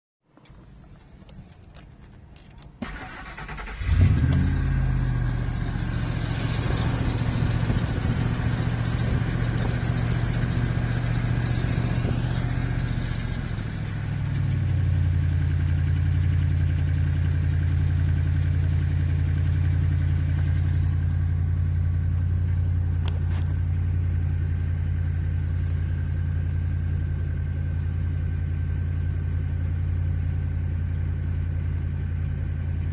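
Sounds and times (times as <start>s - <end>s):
engine clicking noise: 0.3s - 32.9s
engine cranking and idling: 0.3s - 32.9s.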